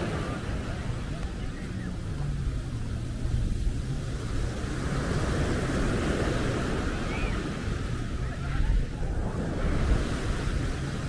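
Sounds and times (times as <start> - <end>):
small waves breaking on shore: 0.0 - 11.0
wind on microphone: 0.0 - 11.0.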